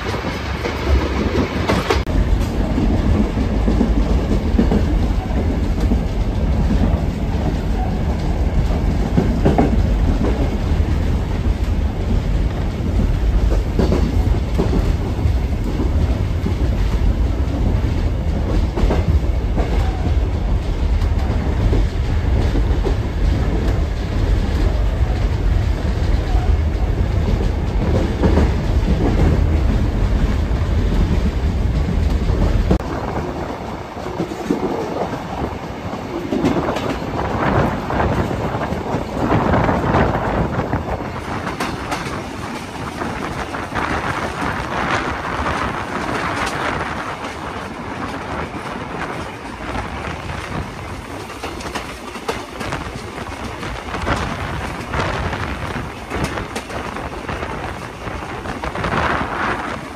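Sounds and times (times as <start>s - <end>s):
rush of wind: 0.0s - 59.9s
train wheels clattering over rails: 0.0s - 59.9s.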